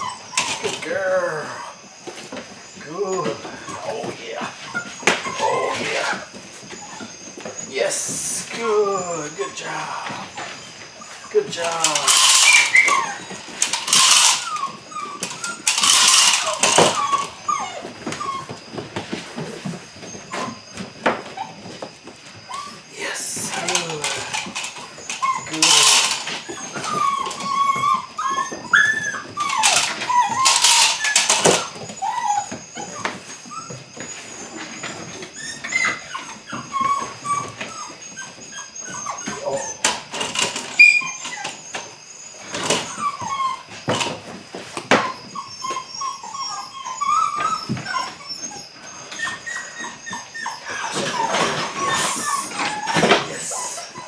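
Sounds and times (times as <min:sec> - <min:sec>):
puppy whining and yipping: 0:00.0 - 0:54.0.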